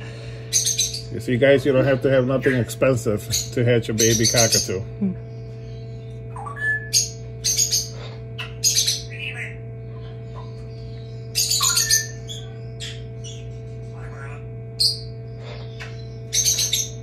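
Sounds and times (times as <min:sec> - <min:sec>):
incubator fan hum: 0:00.0 - 0:17.0.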